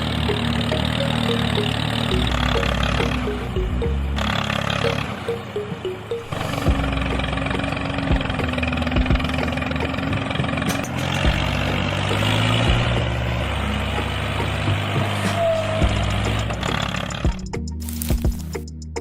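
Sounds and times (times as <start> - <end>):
vehicle engine running: 0.0 - 18.6
music: 0.0 - 19.0.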